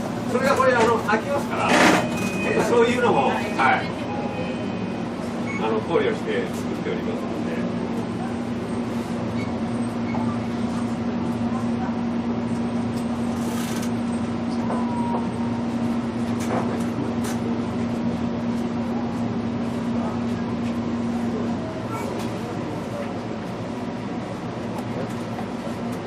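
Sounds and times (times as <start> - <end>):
train interior hum: 0.0 - 26.0.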